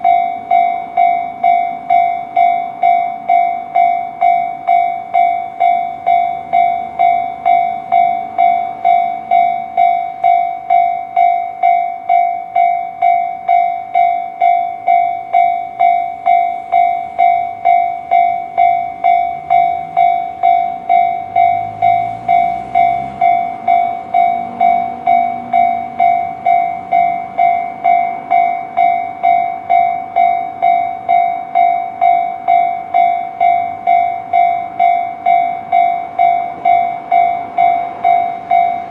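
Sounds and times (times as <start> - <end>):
bell-like ringing strikes: 0.0 - 38.9.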